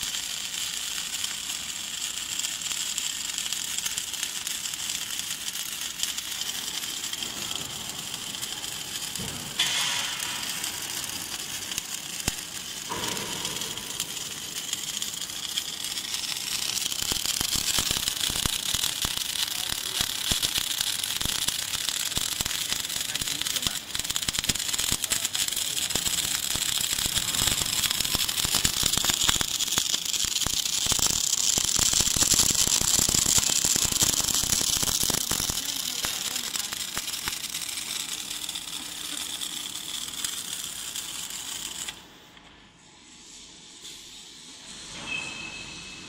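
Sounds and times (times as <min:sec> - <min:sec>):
welding arc crackling: 0:00.0 - 0:42.4.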